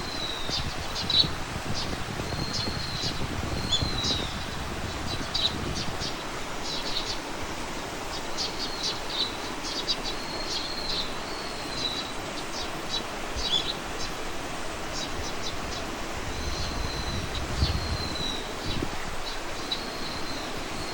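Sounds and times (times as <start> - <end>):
songbirds chirping: 0.0 - 20.9.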